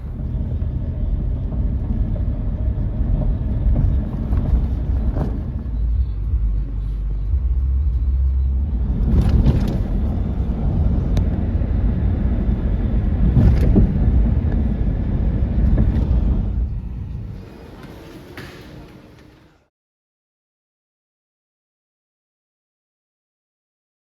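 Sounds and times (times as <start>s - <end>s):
vehicle engine rumbling: 0.0s - 19.5s.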